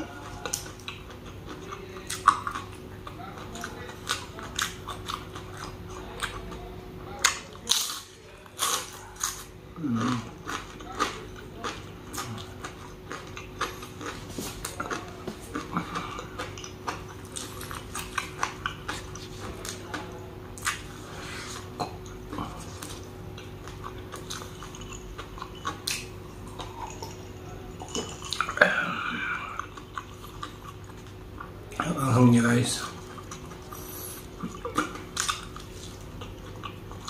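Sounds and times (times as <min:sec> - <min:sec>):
person chewing food: 0:00.0 - 0:32.0, 0:32.8 - 0:37.0
faint steady hum: 0:00.0 - 0:37.0.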